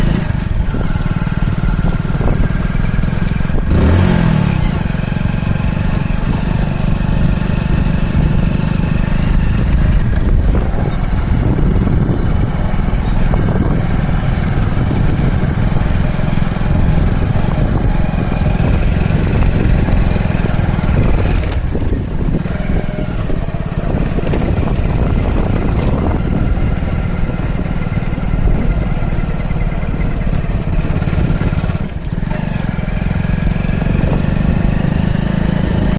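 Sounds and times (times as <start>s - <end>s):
vehicle engine rumbling: 0.0s - 35.9s.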